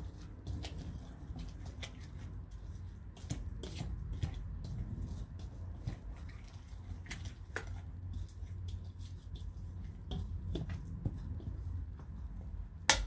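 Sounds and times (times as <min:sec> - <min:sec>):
spatula squishing thick dressing: 0:00.0 - 0:12.9.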